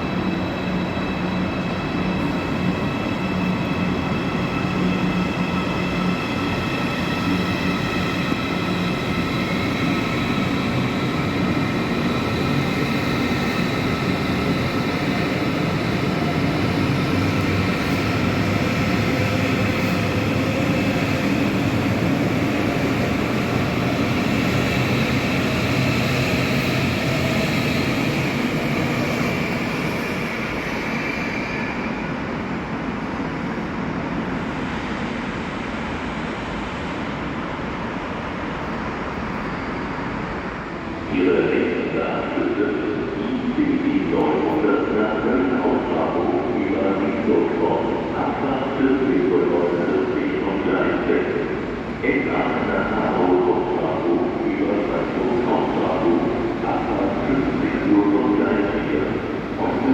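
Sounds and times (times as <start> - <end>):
electric train rumble: 0.0 - 59.9.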